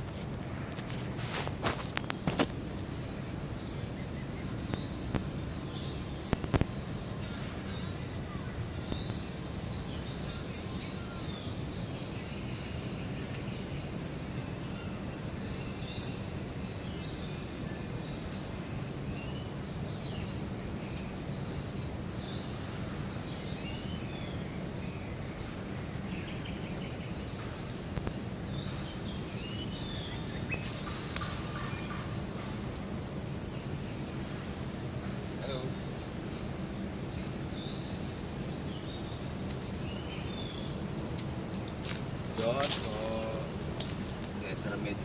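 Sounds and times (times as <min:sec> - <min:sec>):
high-pitched insect drone: 0:00.8 - 0:45.0.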